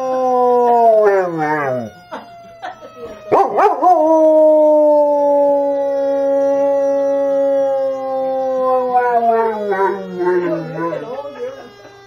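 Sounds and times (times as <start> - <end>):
dog howling: 0.0 - 2.0, 3.3 - 11.2.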